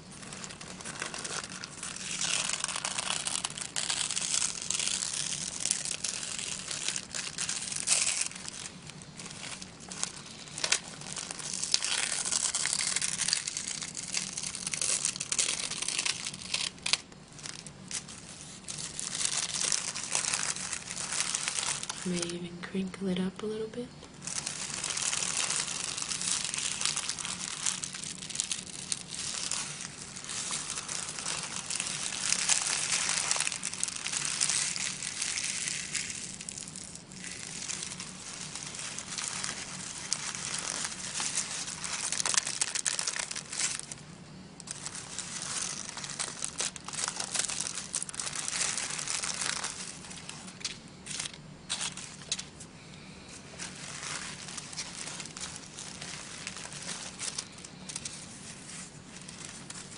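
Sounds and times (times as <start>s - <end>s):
tissue paper crinkling: 0.0s - 22.6s, 24.1s - 59.9s.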